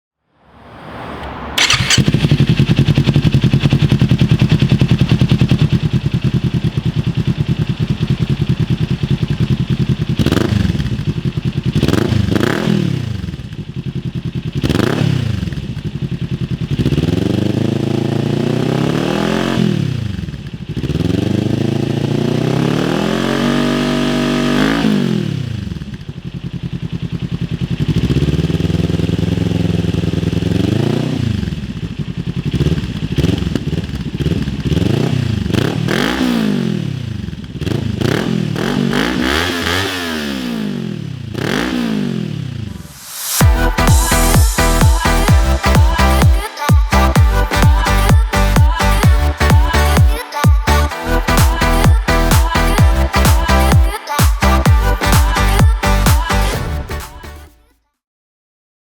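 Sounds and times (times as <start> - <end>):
motorcycle engine idling and revving: 0.9 - 57.6.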